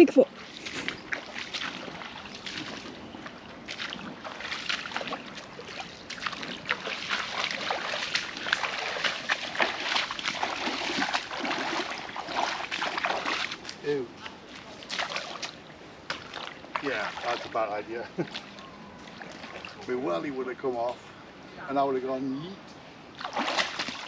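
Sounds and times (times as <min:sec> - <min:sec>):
boots wading through stream: 0:00.1 - 0:20.2, 0:23.2 - 0:24.0.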